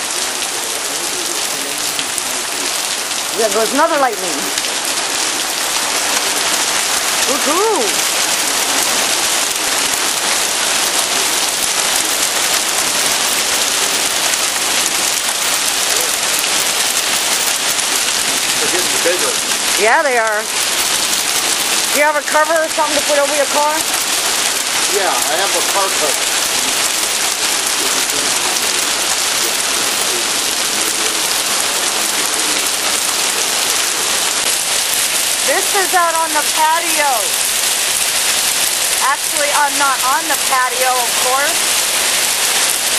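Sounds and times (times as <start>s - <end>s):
hail and heavy rain pelting: 0.0s - 42.9s.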